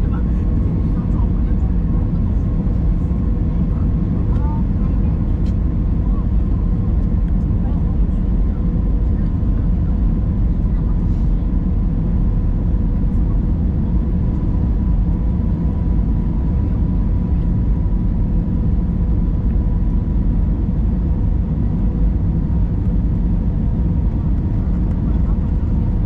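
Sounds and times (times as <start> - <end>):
airliner rumble in flight: 0.0 - 26.0.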